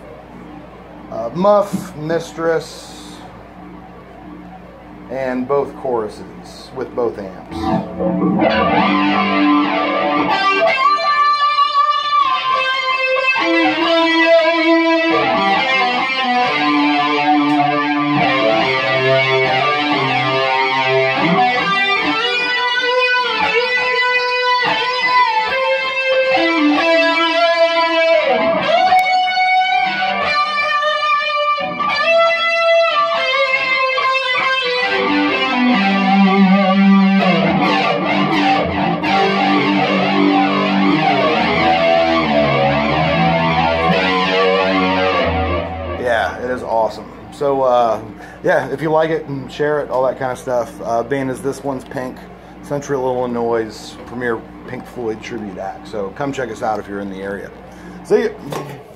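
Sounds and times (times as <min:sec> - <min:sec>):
electric guitar lead with fuzz: 0:00.0 - 0:56.8, 0:57.5 - 0:58.9.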